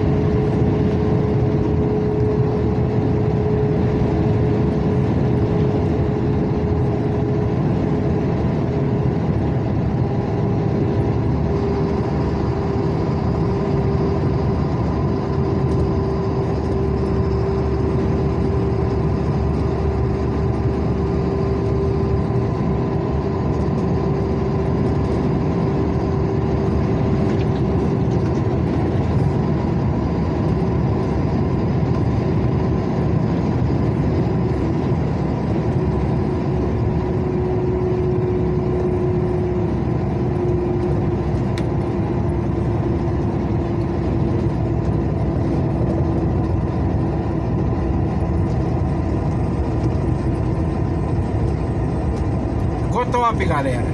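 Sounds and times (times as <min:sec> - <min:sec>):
vehicle engine and road noise: 0:00.0 - 0:53.9.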